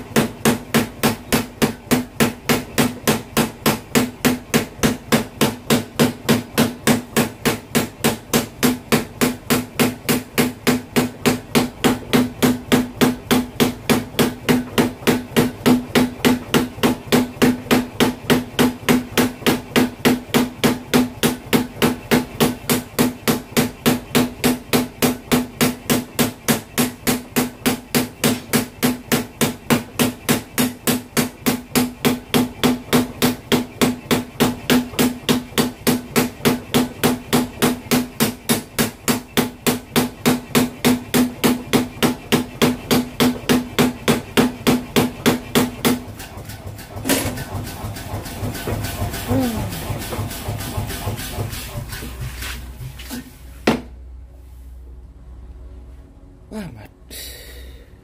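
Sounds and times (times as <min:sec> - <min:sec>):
power hammer pounding hot metal: 0:00.0 - 0:52.9.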